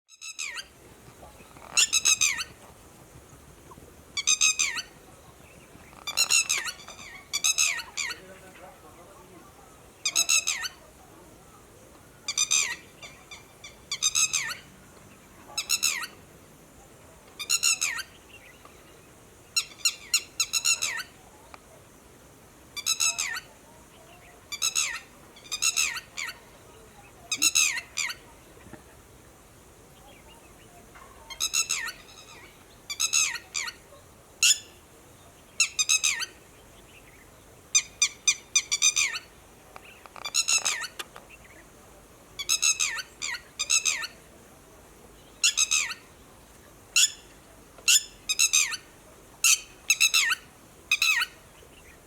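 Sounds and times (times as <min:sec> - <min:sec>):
lapwing alarm call: 0:00.2 - 0:02.7, 0:04.1 - 0:16.3, 0:17.4 - 0:18.9, 0:19.5 - 0:21.2, 0:22.7 - 0:28.7, 0:29.9 - 0:41.7, 0:42.4 - 0:44.3, 0:45.2 - 0:46.2, 0:46.8 - 0:52.0.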